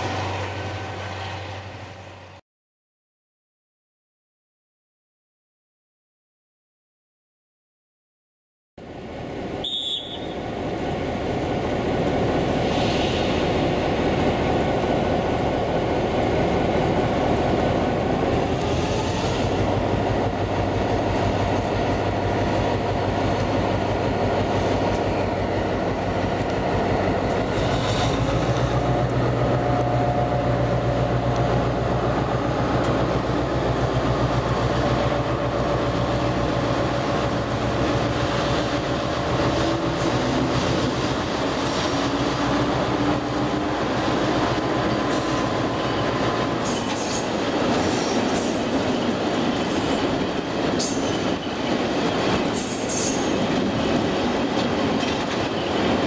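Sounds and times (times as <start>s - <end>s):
diesel locomotive engine rumble: 0.0s - 2.4s, 8.8s - 56.0s
train wheels on rails: 9.1s - 56.0s.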